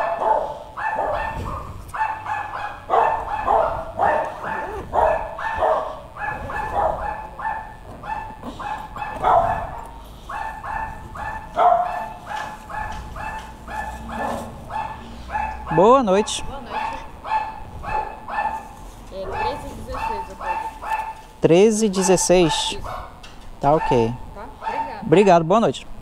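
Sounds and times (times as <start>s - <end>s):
small dogs barking rapidly: 0.0s - 25.2s.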